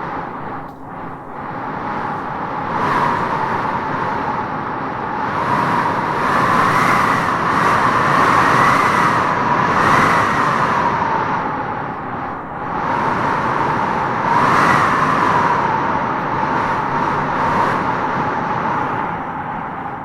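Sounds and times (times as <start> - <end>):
wind howling through trees: 0.0 - 20.0.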